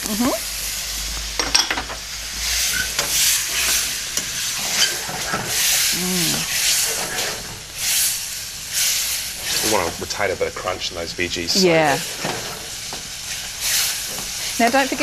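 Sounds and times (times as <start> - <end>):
curry sizzling in a wok: 0.0 - 15.0.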